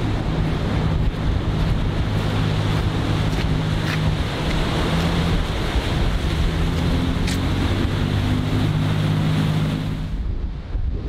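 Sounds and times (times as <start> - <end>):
boat engine droning: 0.0 - 11.0
surf breaking: 0.0 - 11.0
wind on microphone: 0.0 - 11.0.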